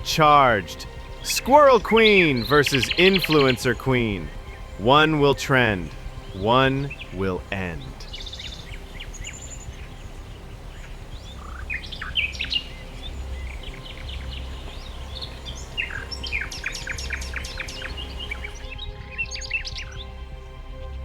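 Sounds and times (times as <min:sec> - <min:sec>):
birds chirping: 0:00.0 - 0:21.0
steady low rumble: 0:00.0 - 0:21.0
sustained tones: 0:00.0 - 0:21.0.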